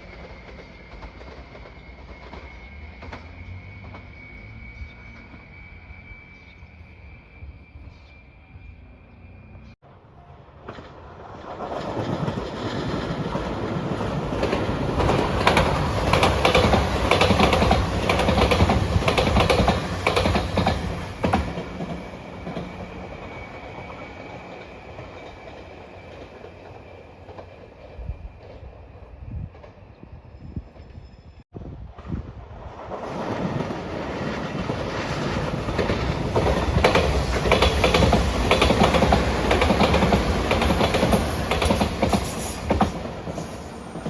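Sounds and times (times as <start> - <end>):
train wheels clicking on rail joints: 0.0 - 5.6, 10.6 - 30.0, 32.8 - 44.0
train passing over rails: 0.0 - 44.0.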